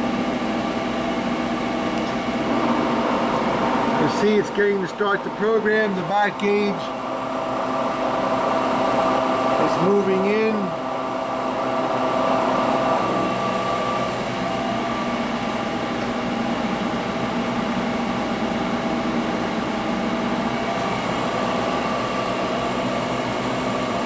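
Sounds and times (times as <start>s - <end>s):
press brake machine hum: 0.0s - 24.0s
steady machine tones: 1.3s - 24.0s.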